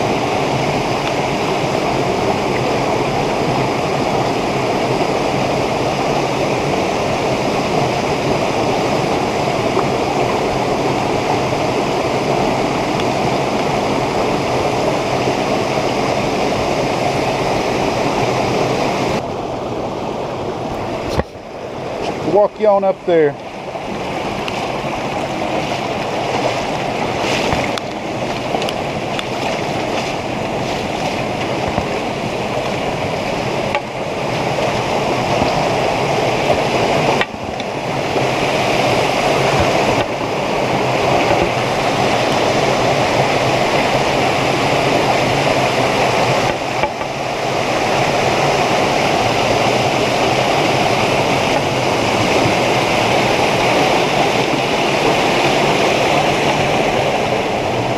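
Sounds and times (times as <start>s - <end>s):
stream rushing over waterfalls: 0.0s - 57.9s.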